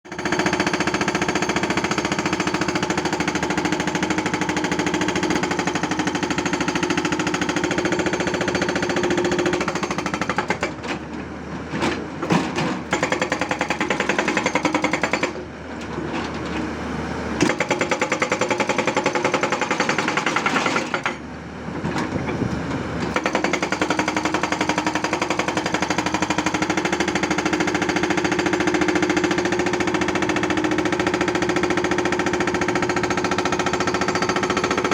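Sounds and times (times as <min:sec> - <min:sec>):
hydraulic rock breaker hammering: 0:00.1 - 0:11.1, 0:11.9 - 0:15.4, 0:17.4 - 0:21.2, 0:23.1 - 0:34.9.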